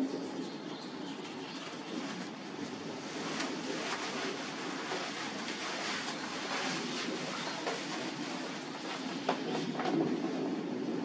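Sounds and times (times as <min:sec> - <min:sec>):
wind rushing through trees: 0:00.0 - 0:11.0.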